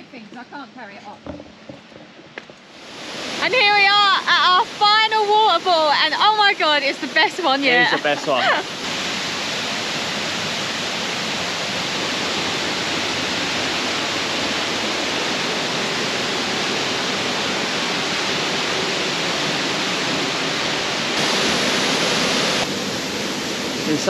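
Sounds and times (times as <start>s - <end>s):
waterfall roaring onto rocks: 0.0s - 24.0s.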